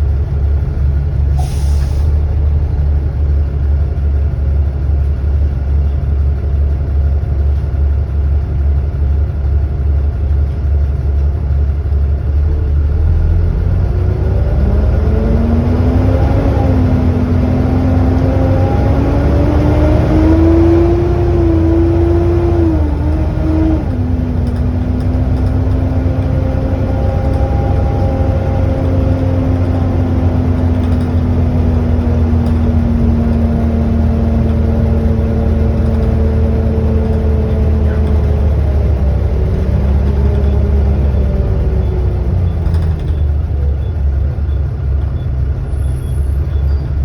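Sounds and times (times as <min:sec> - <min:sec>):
bus engine rumbling: 0:00.0 - 0:47.0
bus engine whine: 0:00.0 - 0:47.0.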